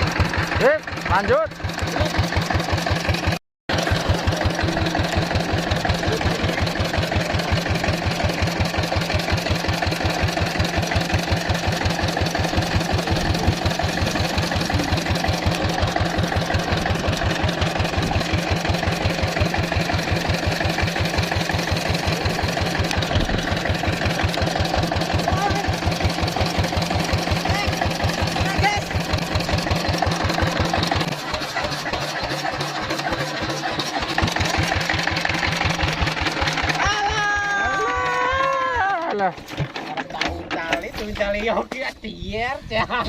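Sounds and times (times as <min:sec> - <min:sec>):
motorboat engine chugging: 0:00.0 - 0:43.0.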